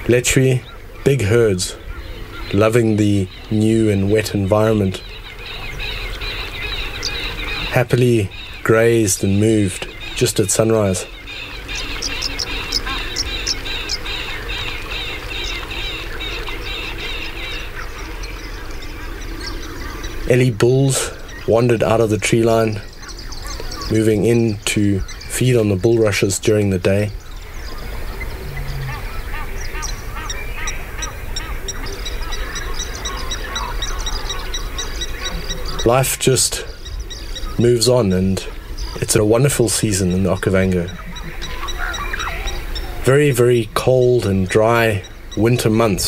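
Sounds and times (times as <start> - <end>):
birds calling: 0.0 - 46.0
high bird chirps: 1.8 - 46.0.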